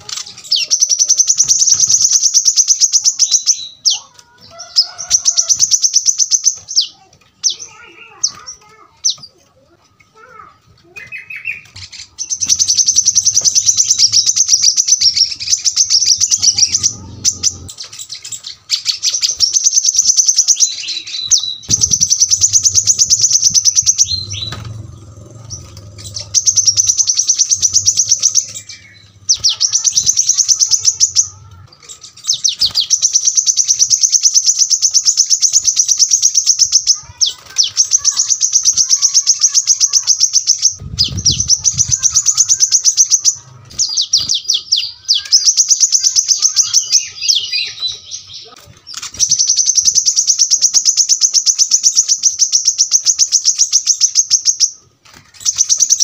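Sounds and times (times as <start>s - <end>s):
sunbird singing rapid trills: 0.1s - 9.2s, 11.1s - 54.8s, 55.4s - 56.0s.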